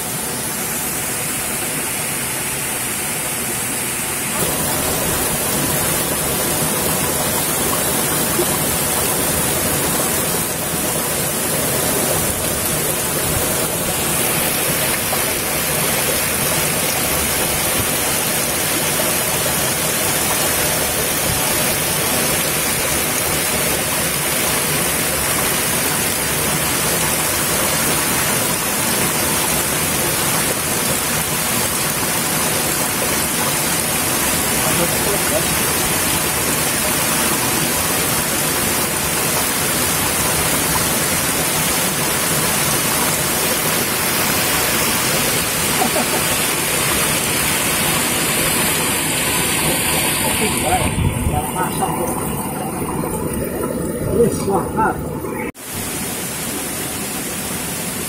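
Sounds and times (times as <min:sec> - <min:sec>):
waterfall splashing on rocks: 0:00.0 - 0:58.0.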